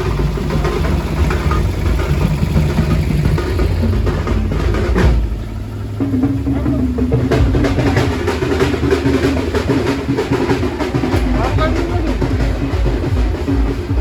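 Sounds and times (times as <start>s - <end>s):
drum-heavy music with deep bass: 0.0s - 14.0s.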